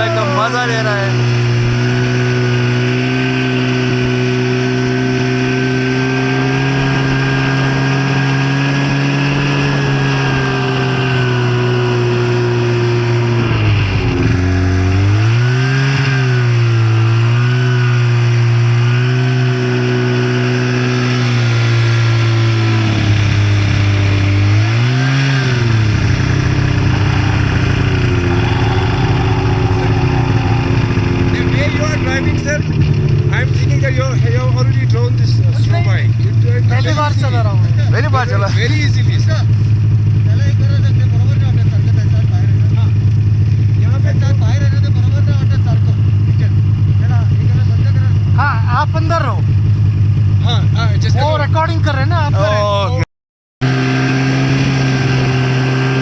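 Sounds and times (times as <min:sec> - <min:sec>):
snowmobile engine running: 0:00.0 - 0:52.8, 0:53.6 - 0:56.0.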